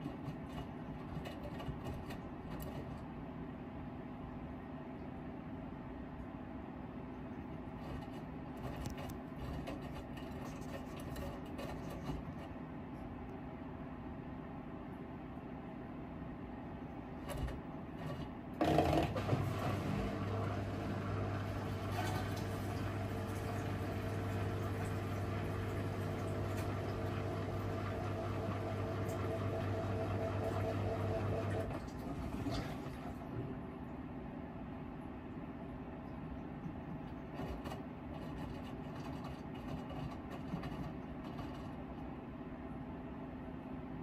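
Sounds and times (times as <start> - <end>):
washing machine motor hum: 0.0 - 44.0.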